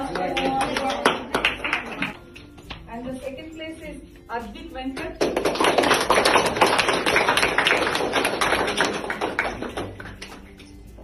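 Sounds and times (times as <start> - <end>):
people clapping: 0.0 - 3.0, 4.9 - 11.0.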